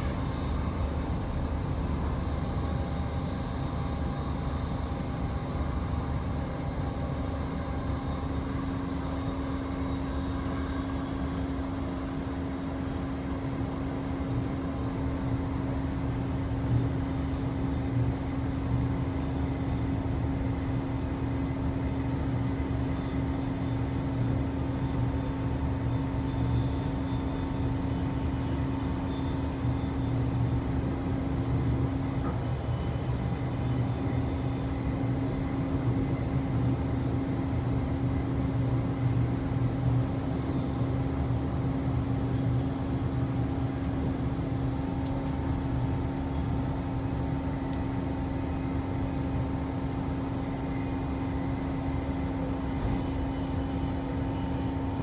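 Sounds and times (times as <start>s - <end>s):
train cabin rumble and hum: 0.0s - 55.0s.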